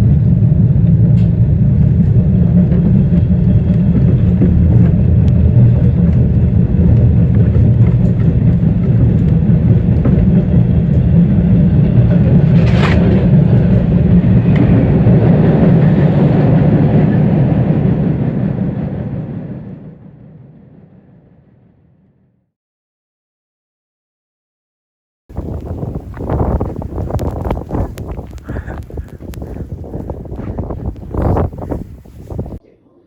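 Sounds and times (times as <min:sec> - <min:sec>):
subway train rumbling: 0:00.0 - 0:21.8, 0:25.3 - 0:32.6.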